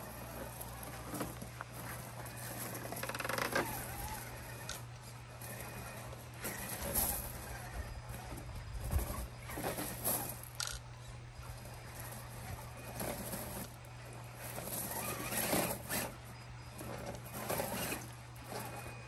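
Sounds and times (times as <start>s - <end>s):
gravel crunching under tyres: 0.0s - 19.0s.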